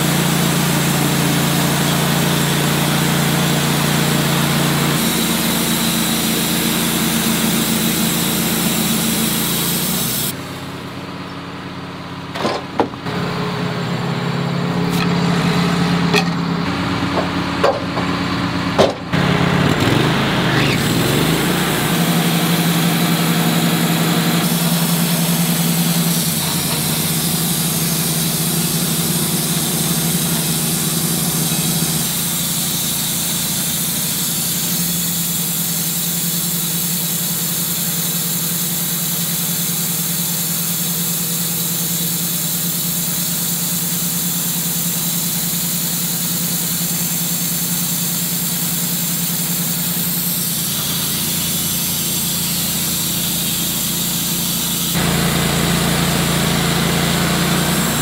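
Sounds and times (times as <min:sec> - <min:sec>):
band saw cutting log: 0:00.0 - 0:10.8, 0:14.7 - 0:18.2, 0:18.8 - 0:58.0
sawmill engine drone: 0:00.0 - 0:58.0.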